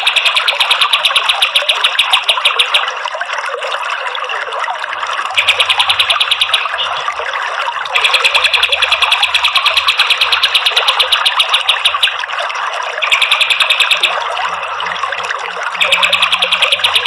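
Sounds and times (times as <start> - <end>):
songbird rapid repeated high notes: 0.0 - 2.9, 5.4 - 12.4, 13.0 - 17.0
running water: 0.0 - 17.0.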